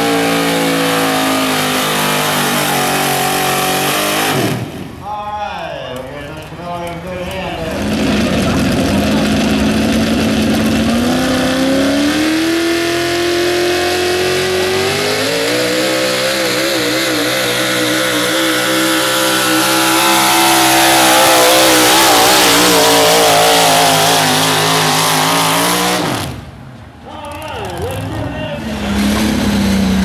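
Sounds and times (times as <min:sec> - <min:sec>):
truck engine at full throttle: 0:00.0 - 0:05.0, 0:07.2 - 0:26.8, 0:27.6 - 0:30.0.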